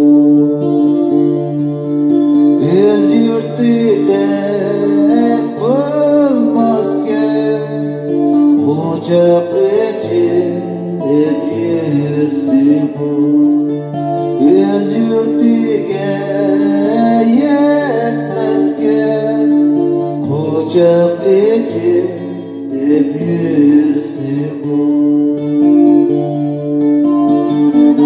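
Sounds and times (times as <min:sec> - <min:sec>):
acoustic guitar played with pick: 0:00.0 - 0:28.0
person singing: 0:02.6 - 0:26.5.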